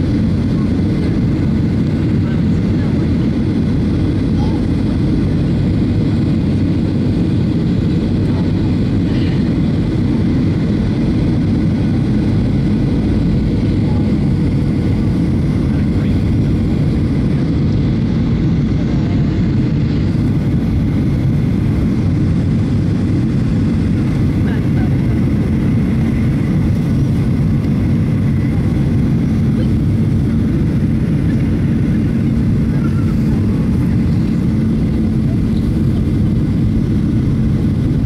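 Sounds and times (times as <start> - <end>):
jet engine cabin rumble: 0.0 - 38.0.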